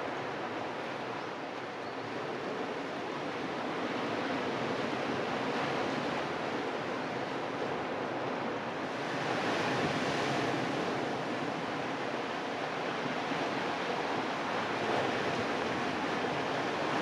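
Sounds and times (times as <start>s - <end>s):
sea surf on rocky shore: 0.0s - 17.0s.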